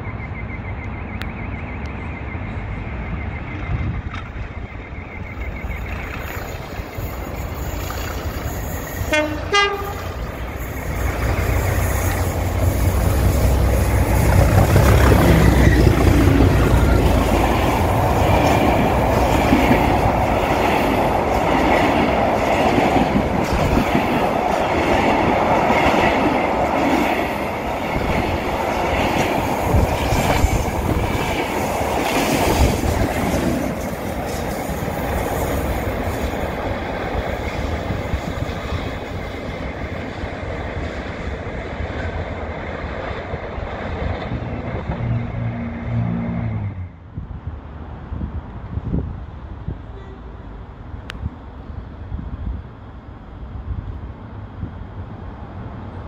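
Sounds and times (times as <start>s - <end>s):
diesel locomotive engine rumble: 0.0s - 56.0s.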